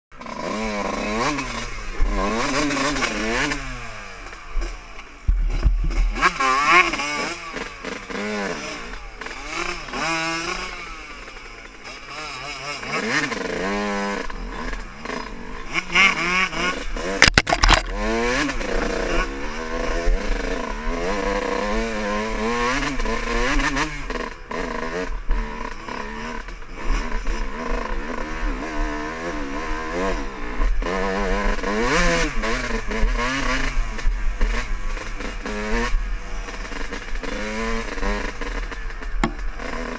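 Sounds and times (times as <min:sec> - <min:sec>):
dirt bike engines revving: 0:00.2 - 0:39.9.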